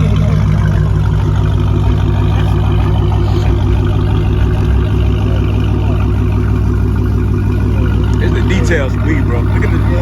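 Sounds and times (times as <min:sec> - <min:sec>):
car engine idling with pulsing rumble: 0:00.0 - 0:10.0.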